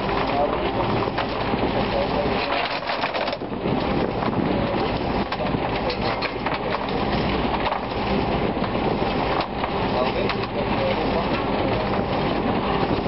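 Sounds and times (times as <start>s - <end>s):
screw conveyor churning: 0.0s - 13.0s.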